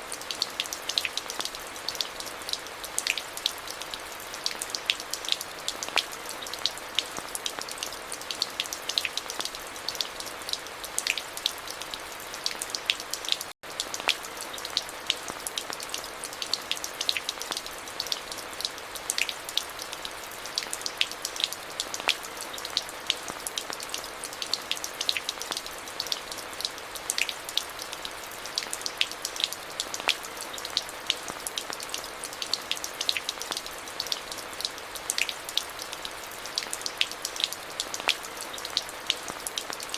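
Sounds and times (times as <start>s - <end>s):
steady rain hiss: 0.0s - 39.9s
raindrops ticking: 0.1s - 39.9s.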